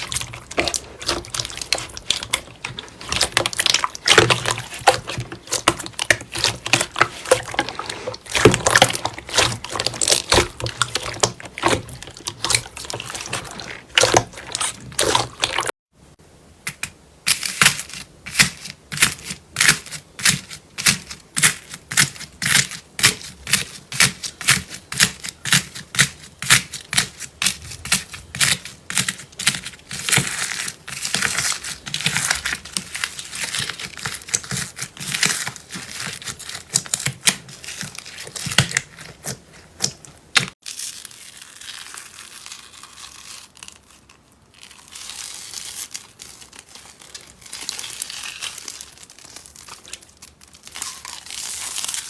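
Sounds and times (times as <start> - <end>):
slime squishing and crackling: 0.0 - 15.8, 16.7 - 52.0.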